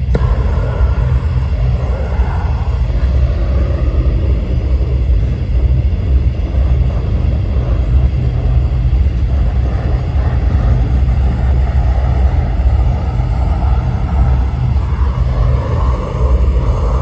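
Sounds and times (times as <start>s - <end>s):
gas torch roaring: 0.0s - 17.0s.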